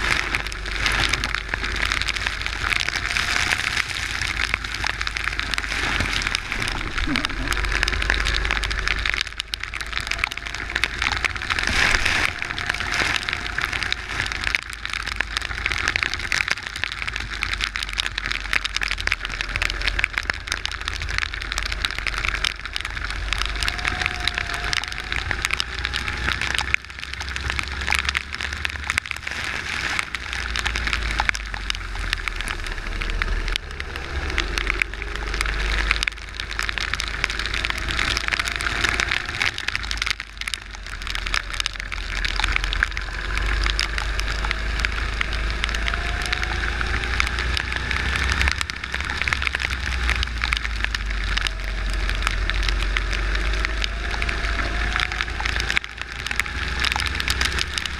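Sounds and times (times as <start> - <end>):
rain and wheel spray hissing: 0.0 - 57.9
wind rumbling on microphone: 0.0 - 57.9.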